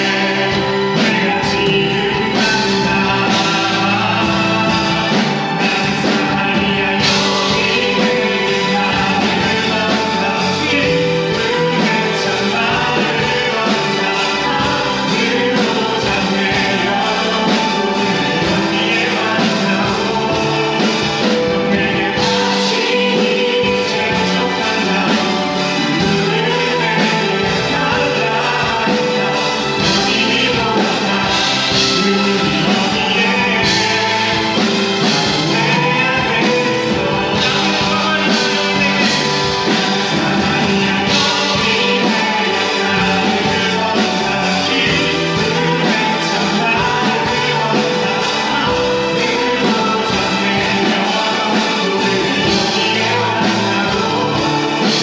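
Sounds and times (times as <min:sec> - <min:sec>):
keyboard-led band: 0:00.0 - 0:55.0
voices singing worship song: 0:00.0 - 0:55.0.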